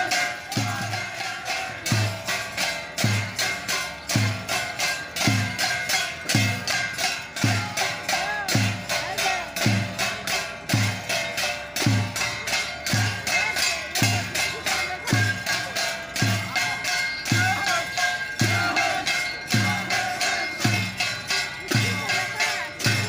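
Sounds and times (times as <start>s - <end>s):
deep drum beat: 0.0s - 23.0s
metallic jingling: 0.0s - 23.0s.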